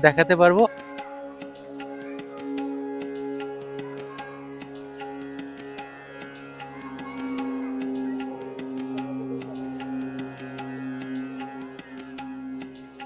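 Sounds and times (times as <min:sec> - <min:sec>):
held drone: 0:00.0 - 0:13.0.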